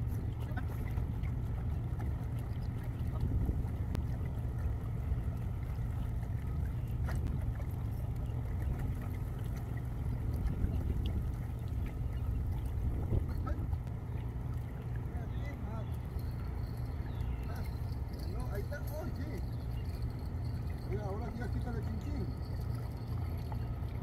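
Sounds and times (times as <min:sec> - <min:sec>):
water lapping against rocks: 0:00.0 - 0:24.0
wind buffeting microphone: 0:00.0 - 0:24.0.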